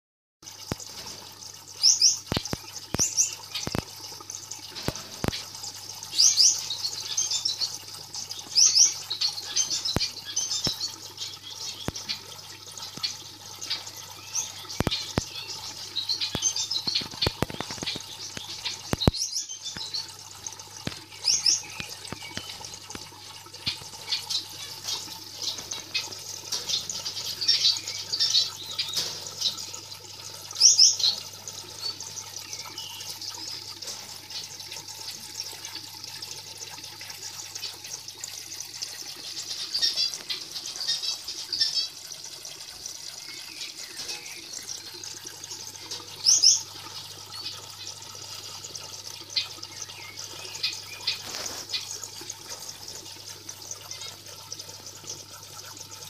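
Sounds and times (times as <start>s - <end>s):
small birds chirping: 0.7s - 55.7s.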